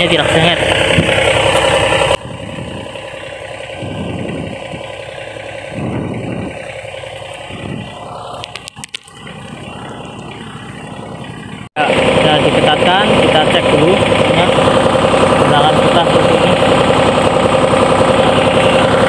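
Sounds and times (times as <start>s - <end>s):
mower engine idling: 0.0s - 19.0s.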